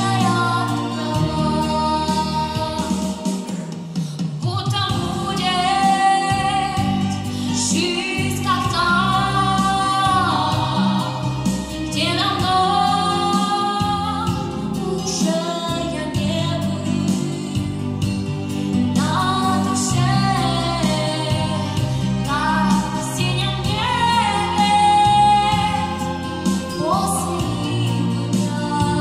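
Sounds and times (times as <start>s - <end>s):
girl singing into microphone: 0.0s - 3.8s, 4.4s - 17.8s, 19.0s - 29.0s
instrumental accompaniment: 0.0s - 29.0s.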